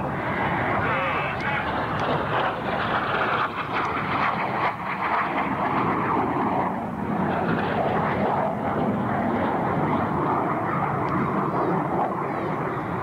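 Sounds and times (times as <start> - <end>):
jet aircraft roaring overhead: 0.0 - 13.0.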